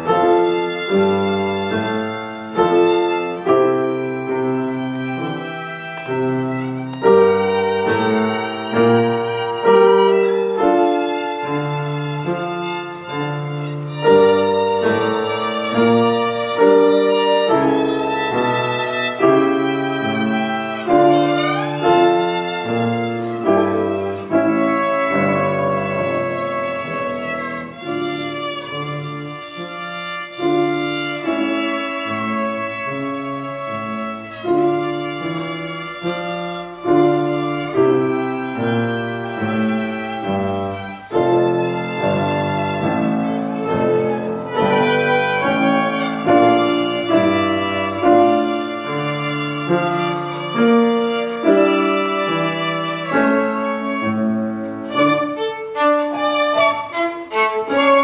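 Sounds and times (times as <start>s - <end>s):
grand piano accompaniment: 0.0s - 58.0s
solo violin: 0.0s - 58.0s.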